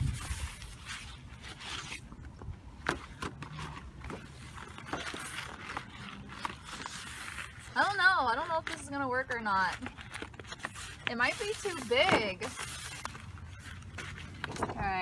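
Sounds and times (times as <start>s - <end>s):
poster board rustling and scraping: 0.0s - 15.0s
crinkles and clicks: 0.1s - 15.0s.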